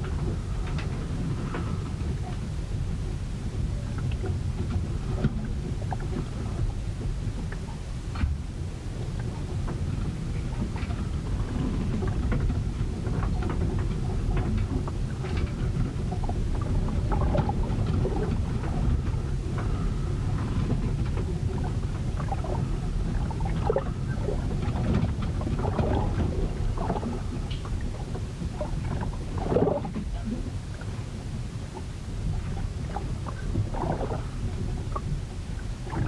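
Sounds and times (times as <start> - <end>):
low rumble of wind and sea: 0.0 - 36.0.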